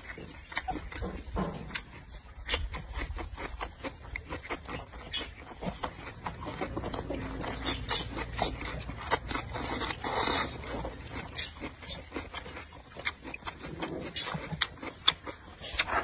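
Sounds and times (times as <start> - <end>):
man chewing crunchy food: 0.0 - 16.0.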